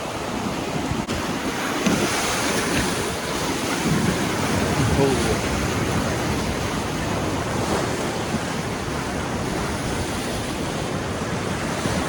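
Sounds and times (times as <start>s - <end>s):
river water rushing: 0.0s - 12.0s
wind noise on microphone: 0.0s - 12.0s.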